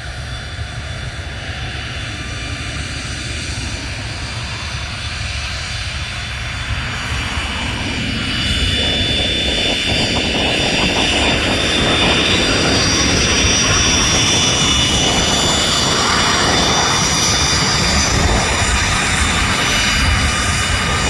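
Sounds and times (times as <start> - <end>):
high jet whine: 0.0 - 21.0
jet engines rumbling: 0.0 - 21.0.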